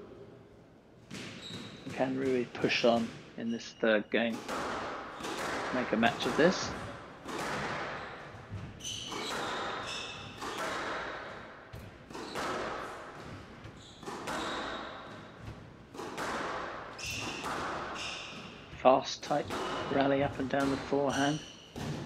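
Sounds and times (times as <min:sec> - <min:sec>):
squash ball hits echoing: 0:01.0 - 0:03.4, 0:04.2 - 0:22.0
shoes squeaking on court floor: 0:01.0 - 0:22.0.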